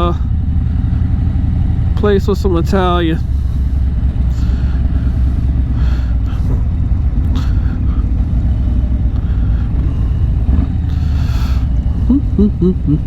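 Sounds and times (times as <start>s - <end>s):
motorcycle engine idling rumble: 0.0s - 13.0s.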